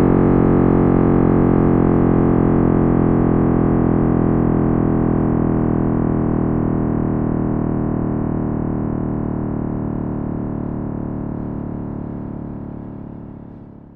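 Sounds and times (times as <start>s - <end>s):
deep synthetic drone: 0.0s - 13.9s.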